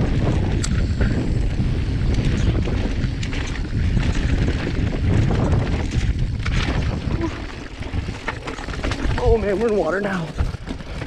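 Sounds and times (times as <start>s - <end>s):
bike clicks and rattles: 0.0s - 11.0s
tyres rumbling on gravel: 0.0s - 11.0s
wind over microphone: 0.0s - 11.0s.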